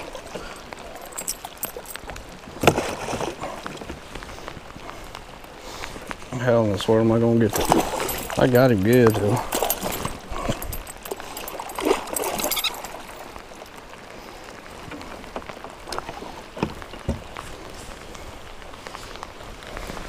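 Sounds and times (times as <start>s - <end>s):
heavy rain on lake: 0.0s - 20.0s.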